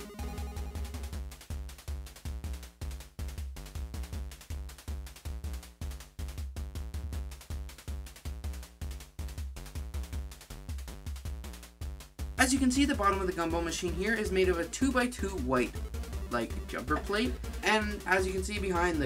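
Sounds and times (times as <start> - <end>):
electronic music with drum beat: 0.0 - 19.0.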